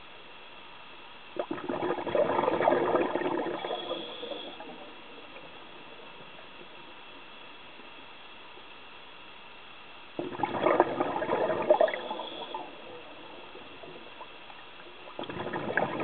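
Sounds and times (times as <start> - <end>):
faint steady hiss: 0.0 - 16.0
underwater bubbles crackling: 1.3 - 8.8, 10.2 - 16.0.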